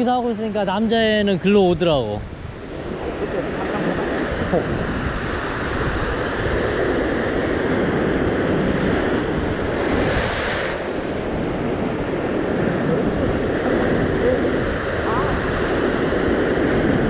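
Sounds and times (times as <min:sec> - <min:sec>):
ocean surf breaking on rocks: 0:00.0 - 0:17.0
wind rumbling on microphone: 0:00.0 - 0:17.0
hissing wash: 0:02.6 - 0:17.0.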